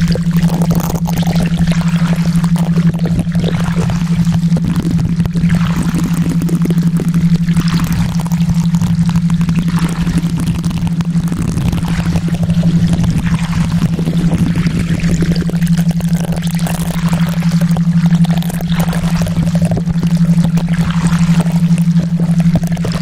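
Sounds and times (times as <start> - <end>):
running water noise: 0.0 - 23.0
steady low hum tone: 0.0 - 23.0.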